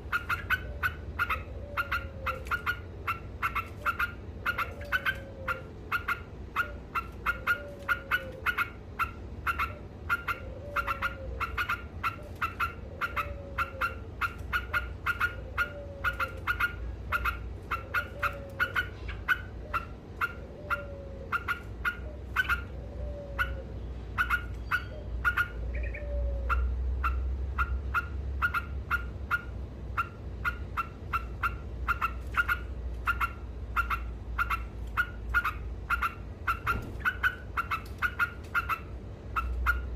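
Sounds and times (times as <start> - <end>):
bird chattering song: 0.0 - 39.9
steady low rumble: 0.0 - 39.9.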